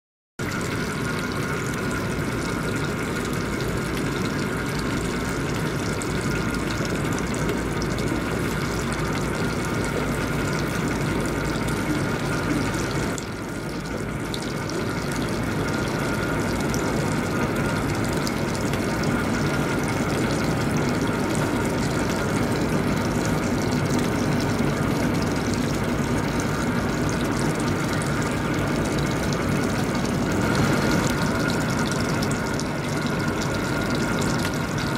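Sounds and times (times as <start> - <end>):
boat engine drone: 0.4 - 34.9
water rushing: 0.4 - 34.9.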